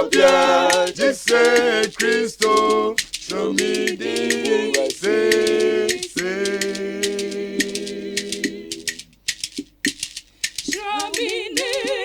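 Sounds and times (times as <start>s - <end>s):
gospel singing: 0.0s - 9.2s, 10.6s - 12.0s
shaker rhythm: 0.0s - 12.0s.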